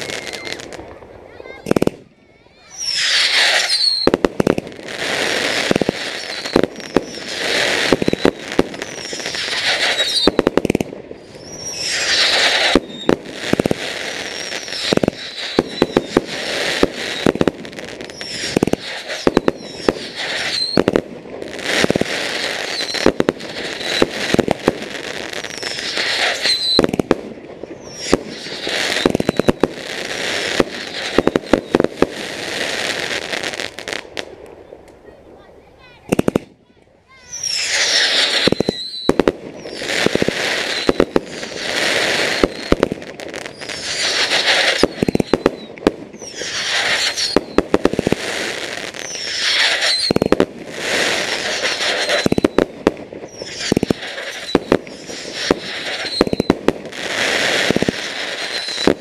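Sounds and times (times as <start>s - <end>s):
firework launches whistling: 0.0s - 0.8s, 1.7s - 21.0s, 21.6s - 27.1s, 27.7s - 34.0s, 37.2s - 59.0s
firework crackles and bangs: 0.0s - 35.2s, 35.9s - 59.0s.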